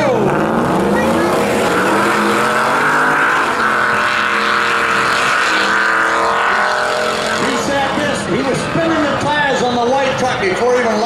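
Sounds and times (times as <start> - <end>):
racing truck engines at high revs: 0.0 - 11.0.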